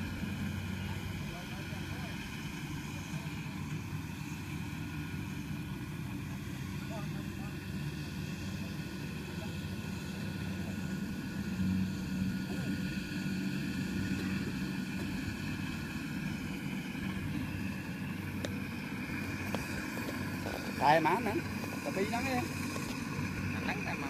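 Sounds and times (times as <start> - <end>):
combine harvester engine drone: 0.0 - 24.0
faint steady whine: 0.0 - 24.0.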